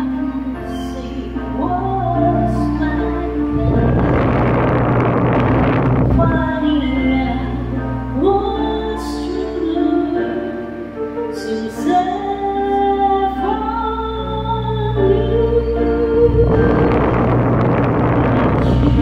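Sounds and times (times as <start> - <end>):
organ-like keyboard chords: 0.0 - 19.0
woman singing into microphone: 0.0 - 19.0
noisy wash: 1.2 - 11.2, 13.3 - 19.0.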